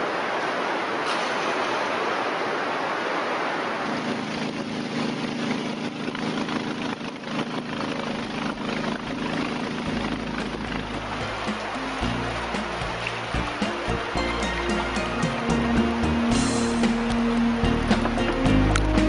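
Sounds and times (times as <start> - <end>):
rushing river water: 0.0 - 19.0
boat motor running: 2.9 - 19.0.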